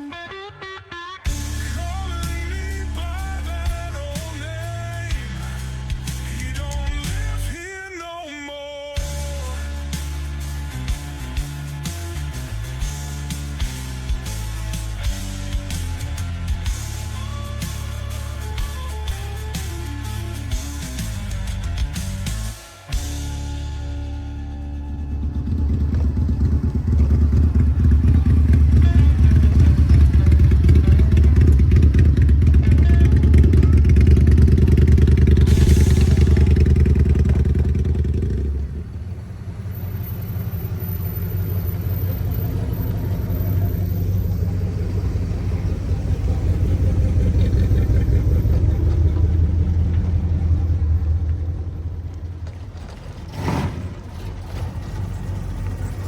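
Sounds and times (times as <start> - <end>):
car engine running loudly: 1.3 - 7.6, 9.0 - 56.0.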